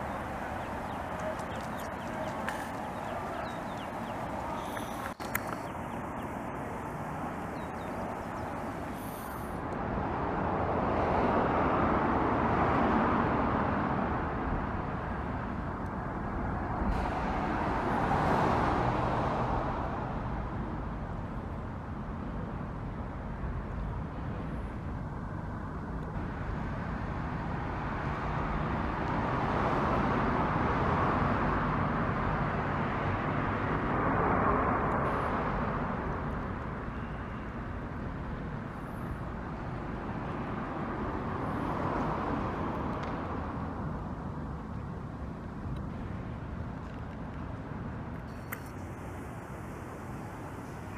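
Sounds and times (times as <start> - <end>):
road traffic passing: 0.0 - 50.9.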